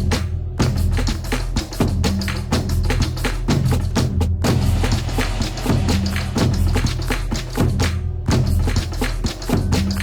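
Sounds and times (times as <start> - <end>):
percussive beat: 0.0 - 10.0.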